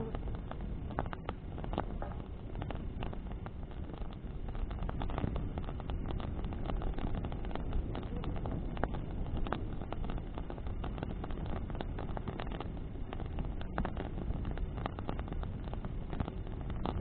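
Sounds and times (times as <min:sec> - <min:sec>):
burning wood crackling and popping: 0:00.0 - 0:17.0
low rumble of wind and flame: 0:00.0 - 0:17.0.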